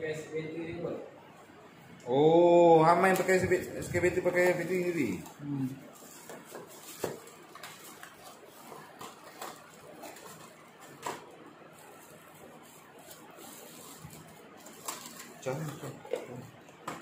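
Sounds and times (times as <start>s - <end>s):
plastic packaging rustling: 3.0s - 17.0s.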